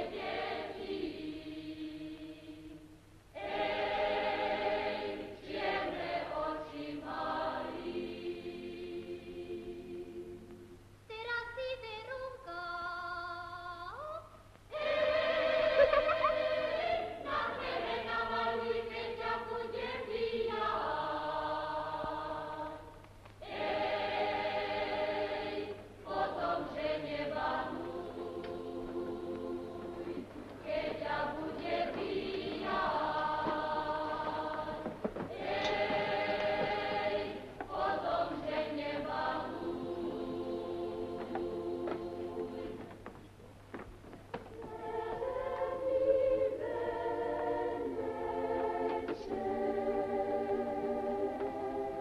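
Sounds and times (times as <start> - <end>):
choir singing folk song: 0.0 - 10.8, 14.7 - 43.2, 44.6 - 52.0.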